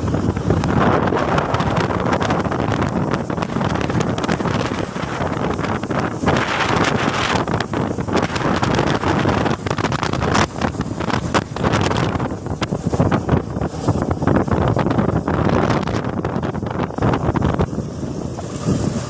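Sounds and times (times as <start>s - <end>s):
motorcycle engine: 0.0s - 19.0s
road noise: 0.0s - 19.0s
wind buffeting microphone: 0.0s - 19.0s.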